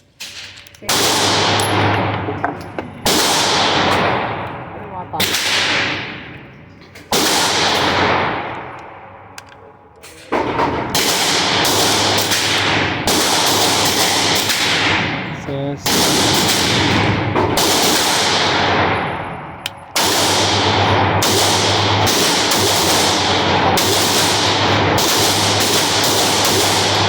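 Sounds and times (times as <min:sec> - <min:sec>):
pistol shots echoing: 0:00.2 - 0:27.0.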